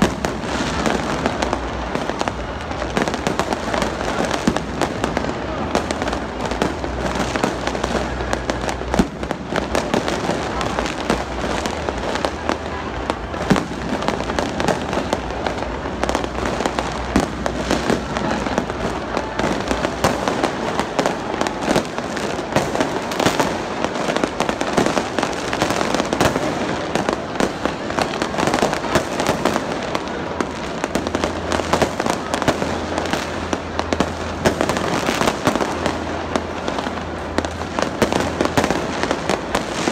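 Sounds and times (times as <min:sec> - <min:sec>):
crowd voices: 0:00.0 - 0:39.9
fireworks bangs and crackles: 0:00.0 - 0:39.9.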